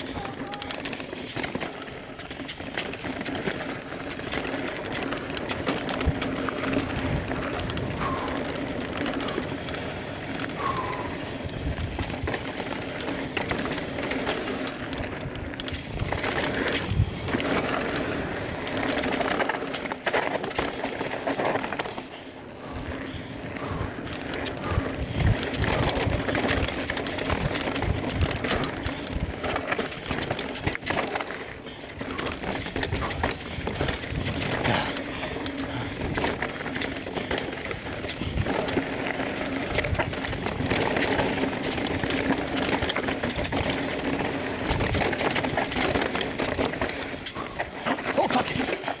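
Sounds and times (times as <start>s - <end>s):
bike chain and frame clattering: 0.0s - 49.0s.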